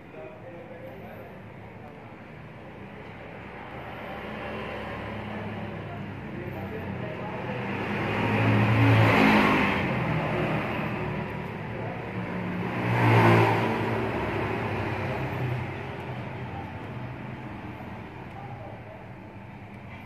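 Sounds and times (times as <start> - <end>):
motor vehicles passing by: 0.2 - 20.0.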